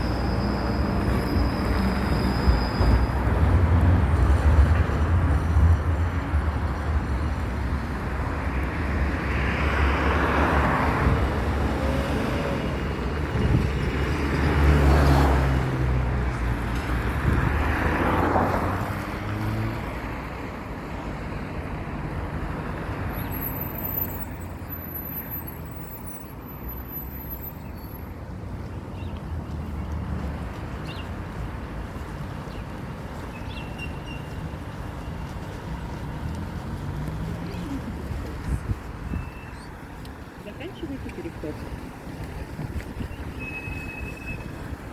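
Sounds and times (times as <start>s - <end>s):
vehicles passing by: 0.0s - 44.9s.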